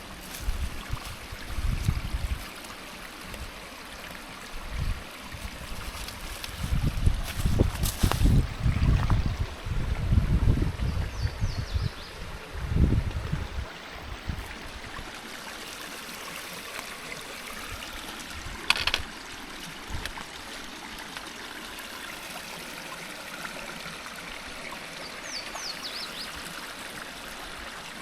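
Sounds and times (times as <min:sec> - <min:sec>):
stream water trickling: 0:00.0 - 0:28.0.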